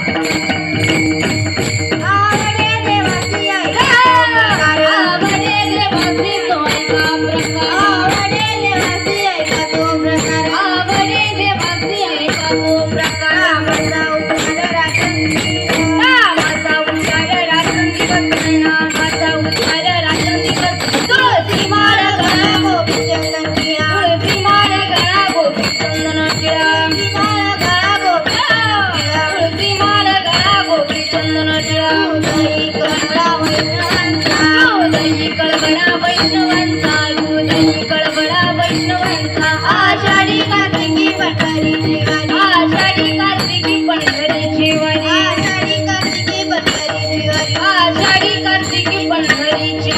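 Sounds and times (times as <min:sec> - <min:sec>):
jingling metallic percussion: 0:00.0 - 0:49.9
woman singing devotional song: 0:00.0 - 0:49.9.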